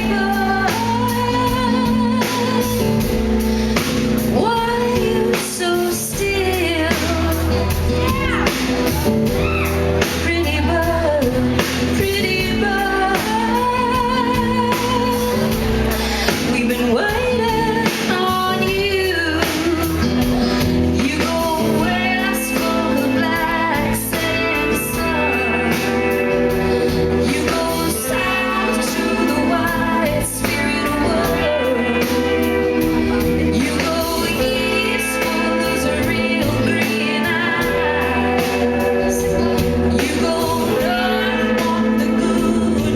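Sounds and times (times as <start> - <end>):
instrumental accompaniment with beat: 0.0 - 42.9
woman singing with vibrato: 0.0 - 42.9.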